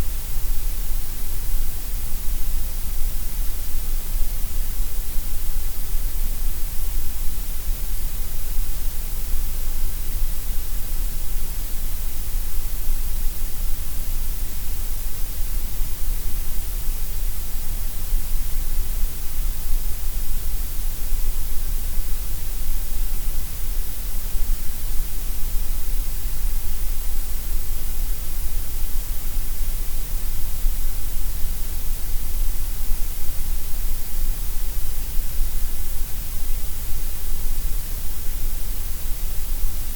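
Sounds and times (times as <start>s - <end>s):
steady gray noise hiss: 0.0s - 39.9s.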